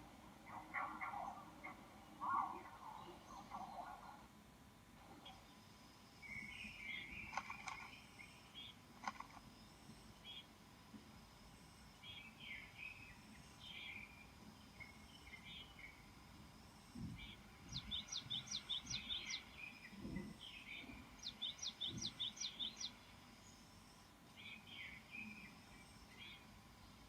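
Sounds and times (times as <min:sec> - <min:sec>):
small birds chirping: 0:00.0 - 0:04.3, 0:05.1 - 0:27.0
faint outdoor background noise: 0:00.0 - 0:27.0.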